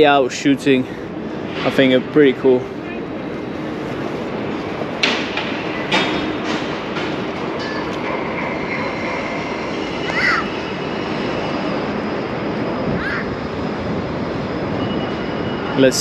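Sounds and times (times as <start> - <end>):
city background hum: 0.0 - 16.0.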